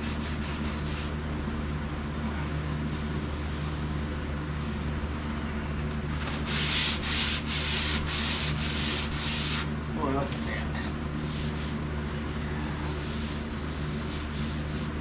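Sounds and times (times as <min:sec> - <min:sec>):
sandpaper rubbing on metal panel: 0:00.0 - 0:04.9, 0:06.4 - 0:15.0
steady low hum: 0:00.0 - 0:15.0.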